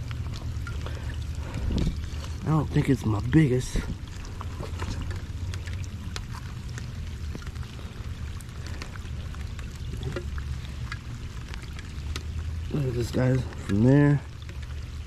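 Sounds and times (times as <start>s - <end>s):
light rain pattering: 0.0s - 15.0s
steady low rumble: 0.0s - 15.0s.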